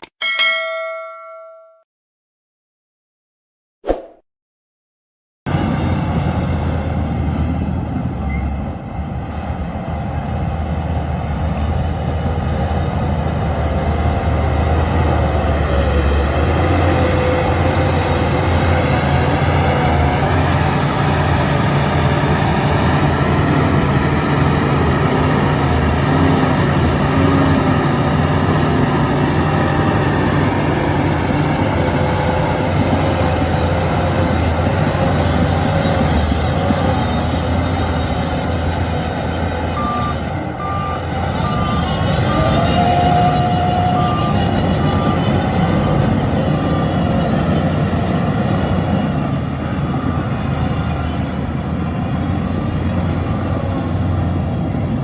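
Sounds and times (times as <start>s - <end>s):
bulldozer diesel engine running: 5.5s - 55.0s.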